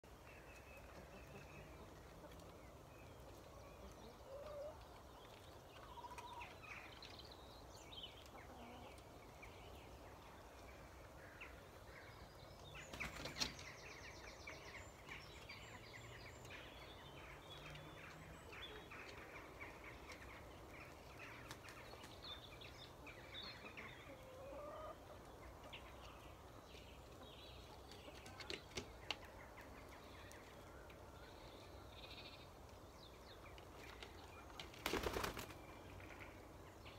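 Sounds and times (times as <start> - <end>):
chickens clucking: 0.5 - 7.2, 8.1 - 12.2, 12.9 - 31.7.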